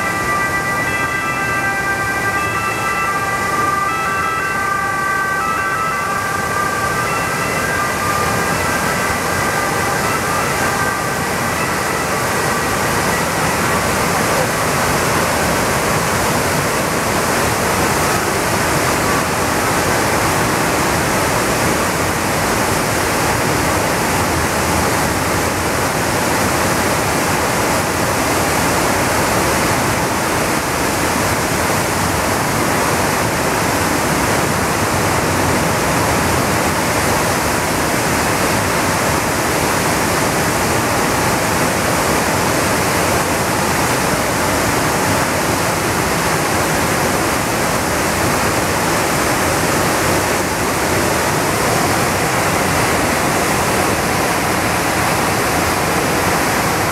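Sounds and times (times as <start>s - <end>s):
water rushing over weir: 0.0s - 56.9s.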